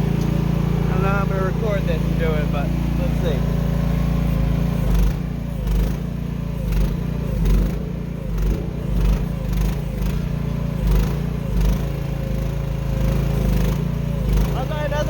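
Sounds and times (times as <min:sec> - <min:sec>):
mini excavator engine running: 0:00.0 - 0:15.0.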